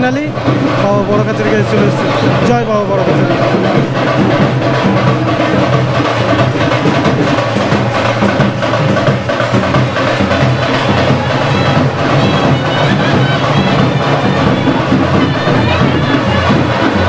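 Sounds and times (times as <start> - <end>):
rapid drumming: 0.0 - 17.0.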